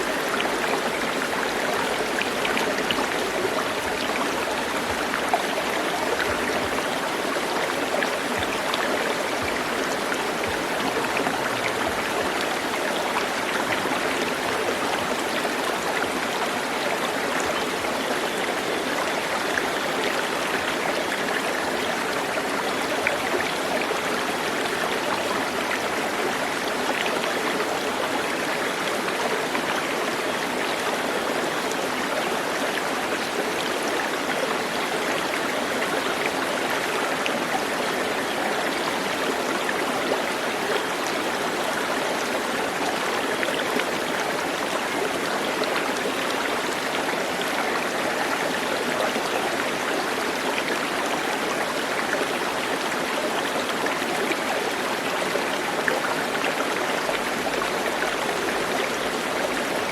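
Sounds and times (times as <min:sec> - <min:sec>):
running water flowing: 0:00.0 - 0:59.9.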